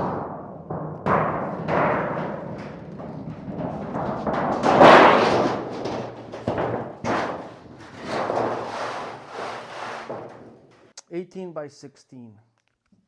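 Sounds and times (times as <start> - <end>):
sharp knocks on sheet metal: 0.0 - 10.7
sheet metal flexing and wobbling: 0.0 - 10.9.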